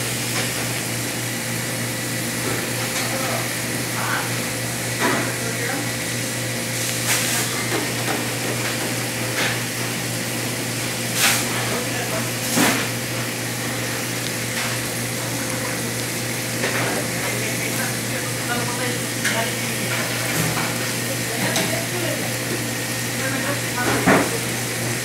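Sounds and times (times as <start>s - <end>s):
chicken sizzling in frying pan: 0.0s - 25.0s.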